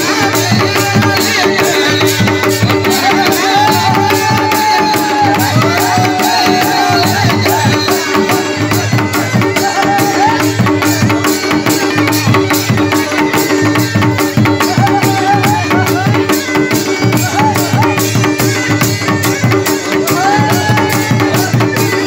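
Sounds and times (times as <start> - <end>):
bagpipe melody over drone: 0.0 - 22.0
drums beating driving rhythm: 0.0 - 22.0.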